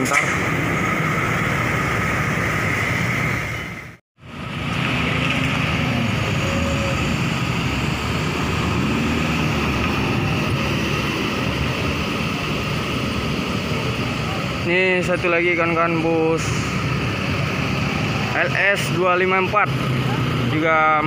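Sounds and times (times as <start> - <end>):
cars and motorbikes passing: 0.0 - 21.0.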